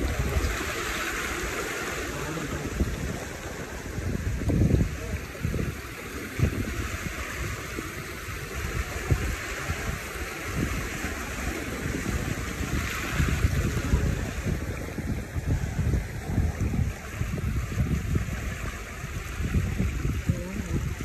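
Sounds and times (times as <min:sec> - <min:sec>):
seawater lapping at shore: 0:00.0 - 0:21.0
wind buffeting microphone: 0:00.0 - 0:21.0.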